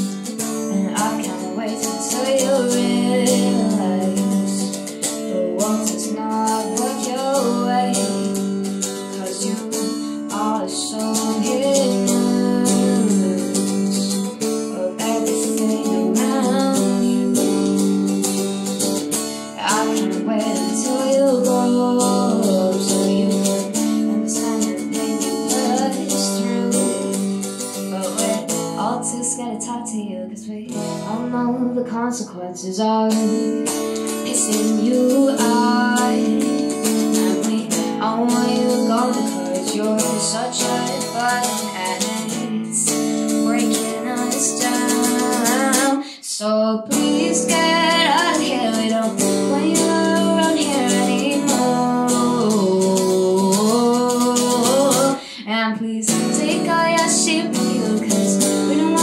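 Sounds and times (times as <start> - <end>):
electric guitar through an amp: 0.0 - 59.0
woman singing: 0.0 - 59.0.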